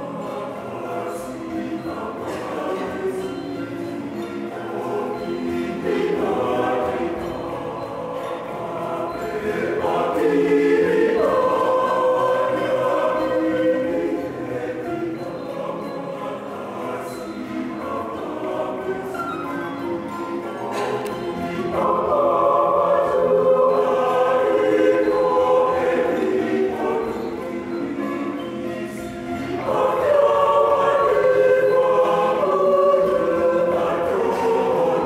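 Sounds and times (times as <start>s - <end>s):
mixed choir singing in harmony: 0.0s - 35.0s.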